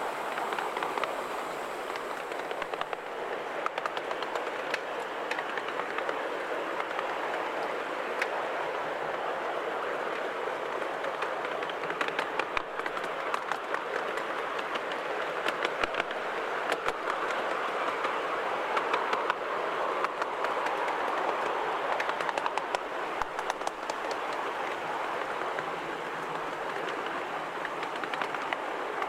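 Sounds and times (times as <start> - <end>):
train wheels rumbling on rails: 0.0 - 29.0
sharp clicks and clacks: 1.9 - 8.4, 10.1 - 18.2, 18.8 - 19.4, 20.0 - 29.0.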